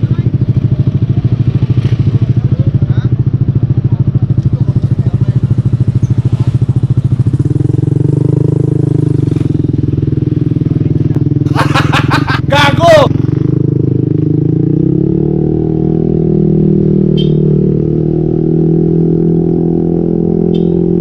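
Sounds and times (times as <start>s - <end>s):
motorcycle exhaust pulsing: 0.0s - 21.0s.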